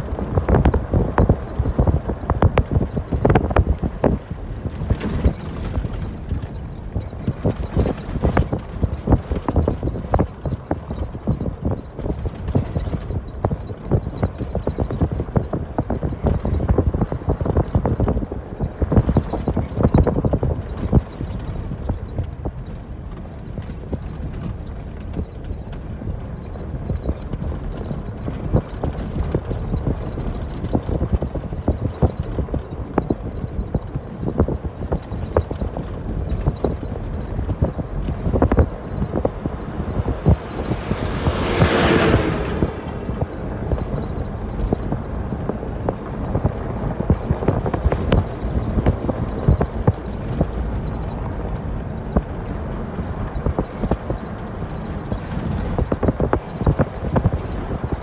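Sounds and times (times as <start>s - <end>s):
vehicle knocks and rattles: 0.0s - 58.0s
vehicle rumble on dirt road: 0.0s - 58.0s.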